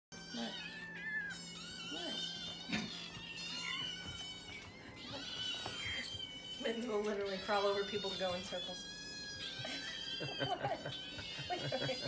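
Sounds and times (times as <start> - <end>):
kittens meowing: 0.2 - 12.0.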